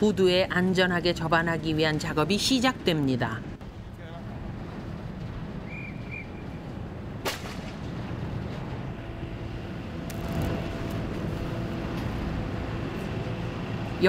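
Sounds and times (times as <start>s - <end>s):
ferry engines rumbling: 0.0s - 14.0s.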